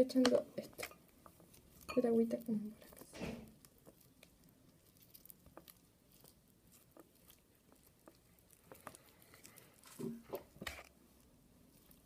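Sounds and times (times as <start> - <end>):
sticky slime squishing: 0.0 - 12.0.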